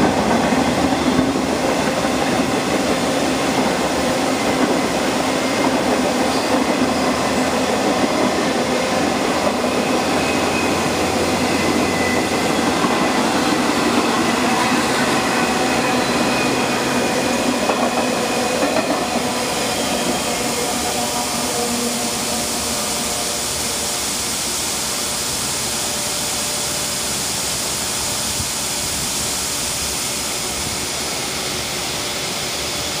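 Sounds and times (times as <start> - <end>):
train wheels on rails: 0.0 - 33.0.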